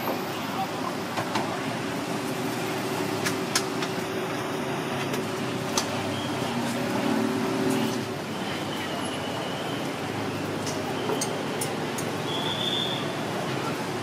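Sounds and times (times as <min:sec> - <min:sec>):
street background hum and hiss: 0:00.0 - 0:14.0.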